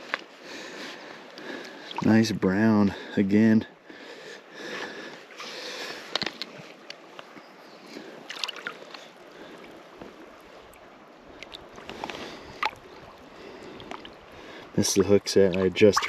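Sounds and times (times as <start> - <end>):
river water splashing: 0.0 - 3.2, 3.8 - 16.0.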